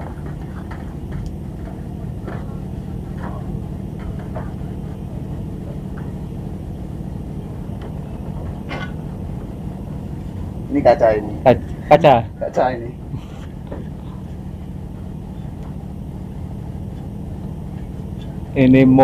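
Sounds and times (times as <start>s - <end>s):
faint knocks and clatters: 0.0s - 10.6s, 13.0s - 18.6s
boat engine idling: 0.0s - 19.0s.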